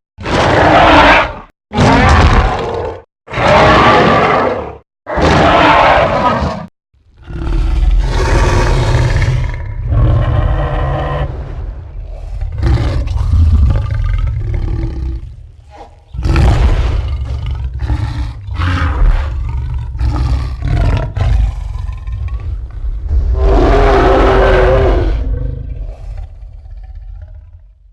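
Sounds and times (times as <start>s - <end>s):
dinosaur roars and growls: 0.2s - 27.9s.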